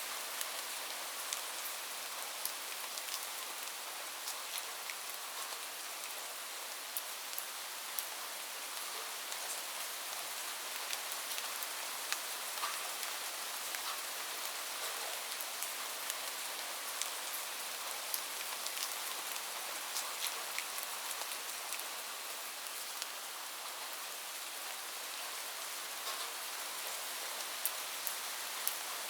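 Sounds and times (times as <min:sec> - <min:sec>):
steady rain hiss: 0:00.0 - 0:29.0
raindrops pattering on surface: 0:00.2 - 0:24.4, 0:25.1 - 0:29.0.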